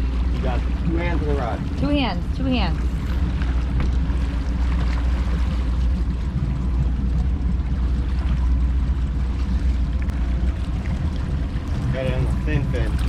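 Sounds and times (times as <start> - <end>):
motorboat engine rumbling: 0.0 - 13.0
water noise: 0.0 - 13.0.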